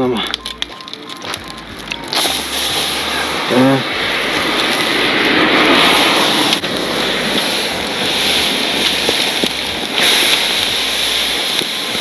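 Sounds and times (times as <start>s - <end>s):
steaks sizzling on grill: 0.6s - 12.0s.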